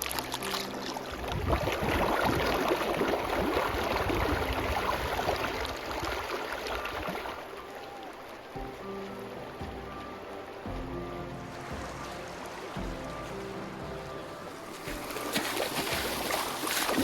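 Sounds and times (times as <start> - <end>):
creek water flowing and splashing: 0.0 - 17.0.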